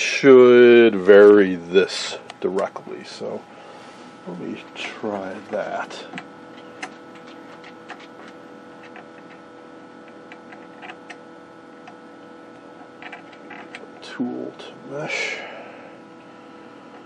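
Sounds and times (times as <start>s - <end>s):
multi-tone electrical hum: 0.0s - 17.0s.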